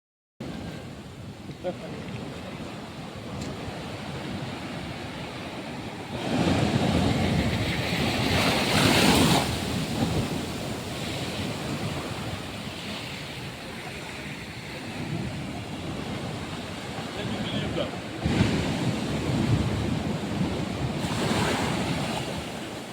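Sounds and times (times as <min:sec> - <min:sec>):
ocean waves washing onto beach: 0:00.4 - 0:22.9.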